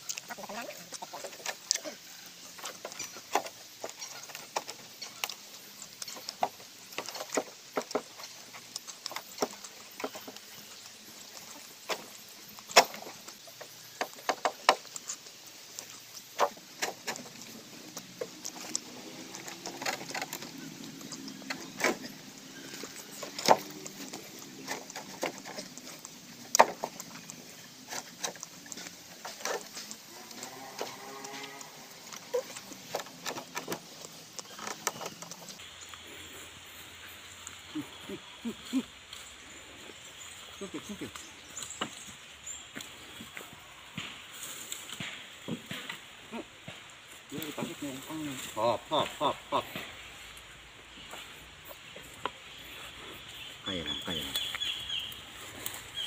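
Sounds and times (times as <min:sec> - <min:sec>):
bamboo poles knocking together: 0:00.0 - 0:35.7, 0:40.6 - 0:50.4.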